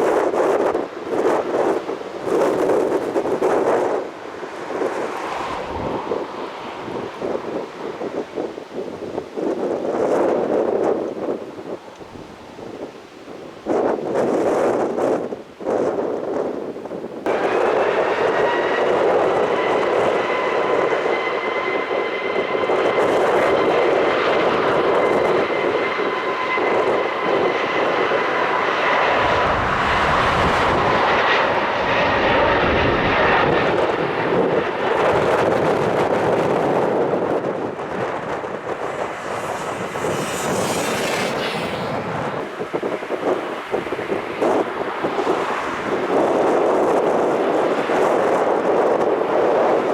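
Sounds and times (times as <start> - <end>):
jet engine fan whine: 0.0 - 49.9
jet noise: 0.0 - 49.9.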